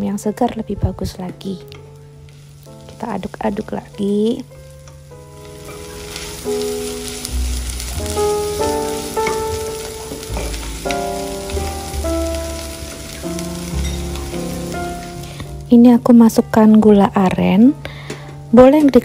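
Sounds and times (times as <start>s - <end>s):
gentle background music: 0.0s - 19.0s
onions sizzling in butter: 1.1s - 17.8s.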